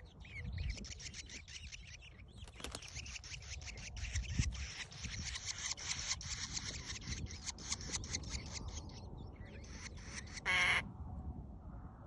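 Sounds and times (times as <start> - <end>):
nestlings begging calls: 0.0 - 10.8.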